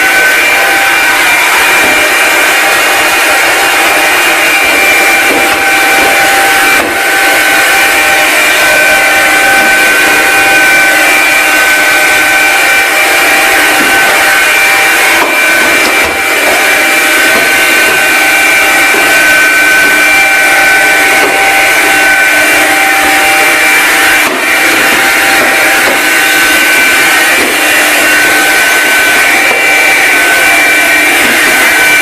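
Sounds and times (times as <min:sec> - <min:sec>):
stick vacuum motor whine: 0:00.0 - 0:32.0.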